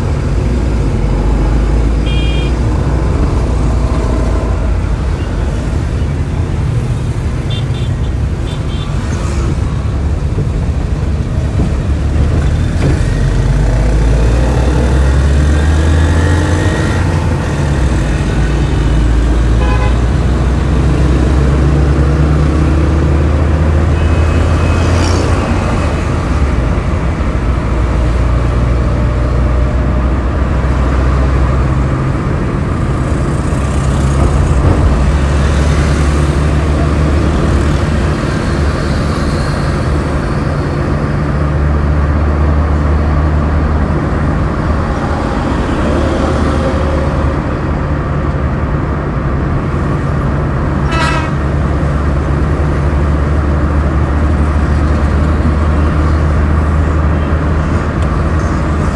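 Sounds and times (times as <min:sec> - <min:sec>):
engine and road drone: 0:00.0 - 0:58.9
passing traffic noise: 0:00.0 - 0:58.9.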